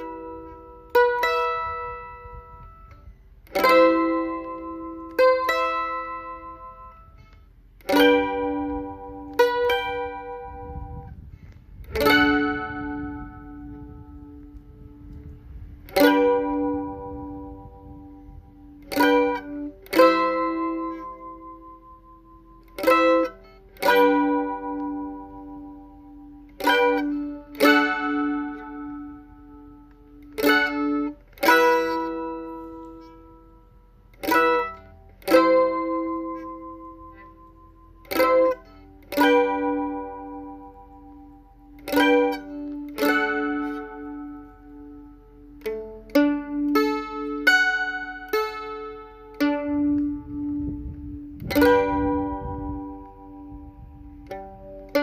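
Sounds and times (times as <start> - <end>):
mandolin plucked chords: 0.0 - 55.0.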